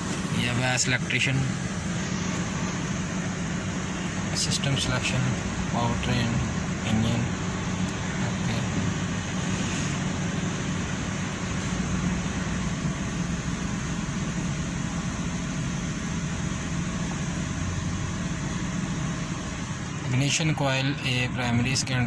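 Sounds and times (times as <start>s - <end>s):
car engine idling with misfire: 0.0s - 22.0s.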